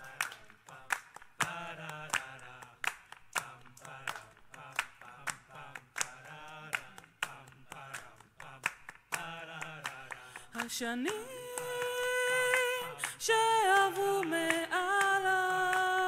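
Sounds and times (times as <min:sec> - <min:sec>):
hands clapping a steady beat: 0:00.0 - 0:16.0
voices singing: 0:00.0 - 0:16.0.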